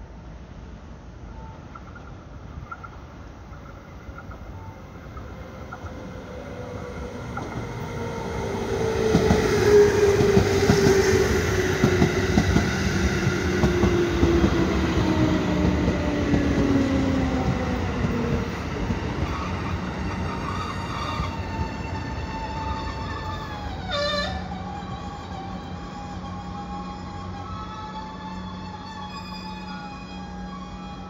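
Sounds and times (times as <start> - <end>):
train rumble: 0.0 - 31.0
train whine falling in pitch: 4.2 - 31.0.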